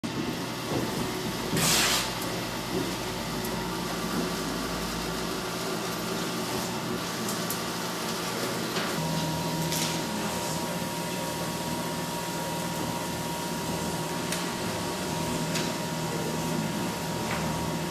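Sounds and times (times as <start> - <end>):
paper shredder running: 0.0 - 17.9.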